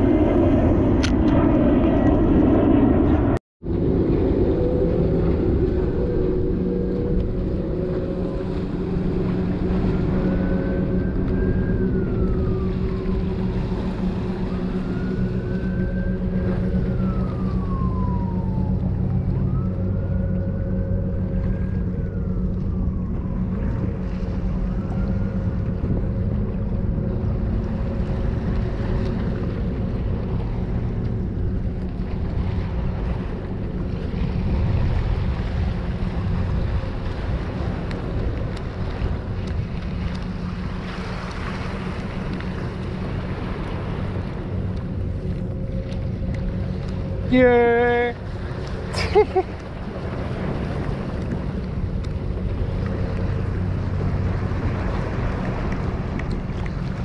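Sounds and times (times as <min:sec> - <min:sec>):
high whine rising and falling: 0:00.0 - 0:57.0
motorboat engine droning: 0:00.0 - 0:57.0
waves: 0:00.0 - 0:57.0
wind: 0:00.0 - 0:57.0.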